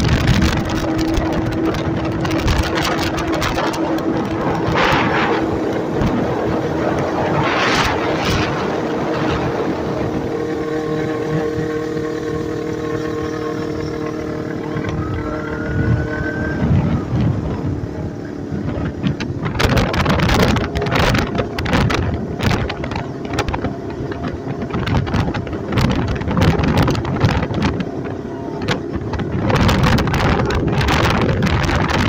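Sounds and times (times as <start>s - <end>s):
motorcycle engine rumble: 0.0s - 32.0s
wind buffeting microphone: 0.0s - 32.0s.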